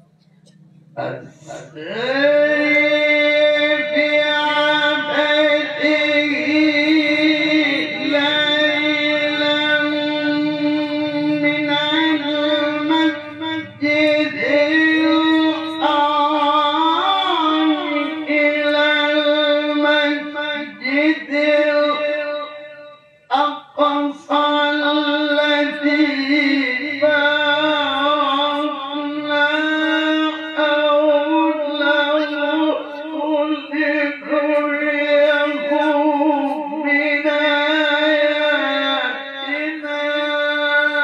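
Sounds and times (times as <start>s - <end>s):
man chanting melodically: 0.0s - 41.0s.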